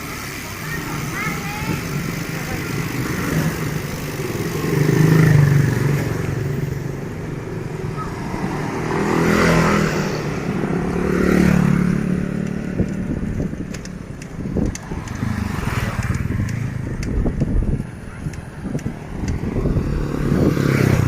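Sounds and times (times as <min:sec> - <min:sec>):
road noise: 0:00.0 - 0:21.0
vehicles passing: 0:00.0 - 0:21.0.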